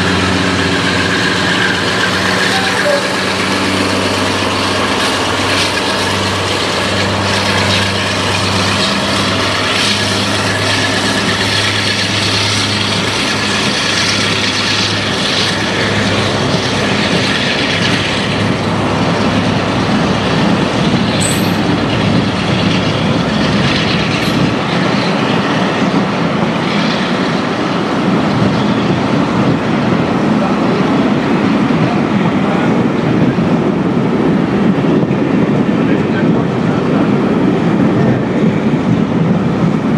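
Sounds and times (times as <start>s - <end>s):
locomotive engine humming: 0.0s - 39.9s
train rumbling on rails: 0.0s - 39.9s.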